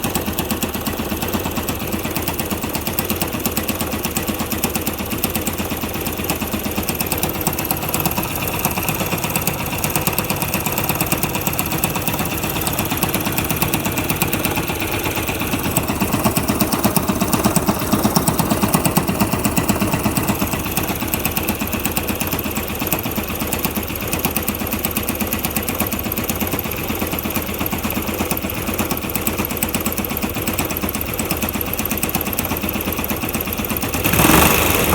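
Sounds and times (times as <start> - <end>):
motorcycle engine rattling knock: 0.0 - 34.2.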